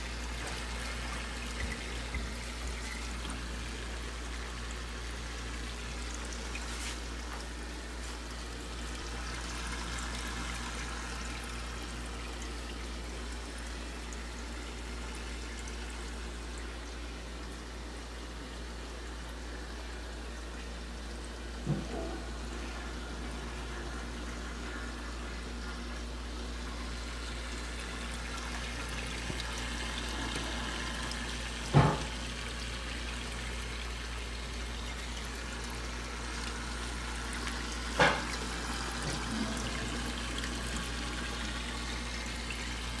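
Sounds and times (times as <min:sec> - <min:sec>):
filter humming: 0:00.0 - 0:43.0
water trickling: 0:00.0 - 0:43.0.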